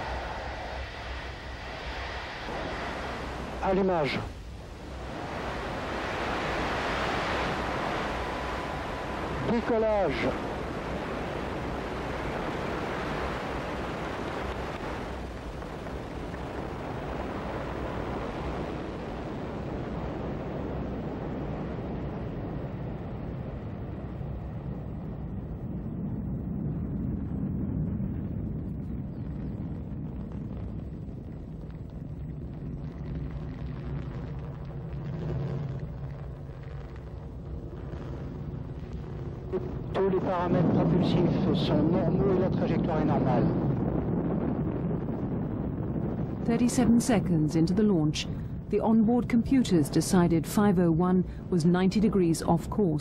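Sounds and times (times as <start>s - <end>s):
rocket engine roar: 0.0s - 53.0s.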